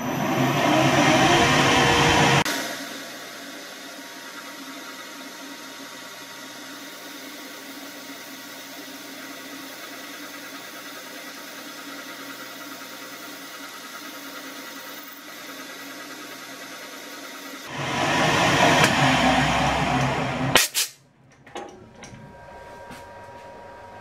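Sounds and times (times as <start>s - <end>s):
metal lathe humming: 0.0s - 20.6s.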